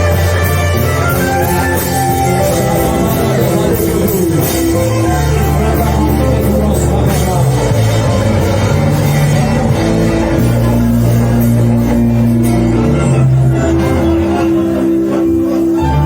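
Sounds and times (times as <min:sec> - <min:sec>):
band playing instrumental: 0:00.0 - 0:16.0.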